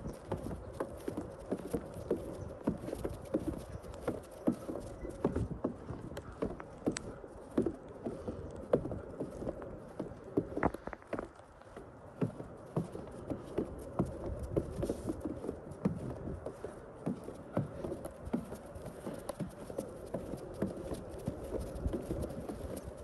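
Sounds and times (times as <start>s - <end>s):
footsteps in snow on boardwalk: 0.0s - 23.0s.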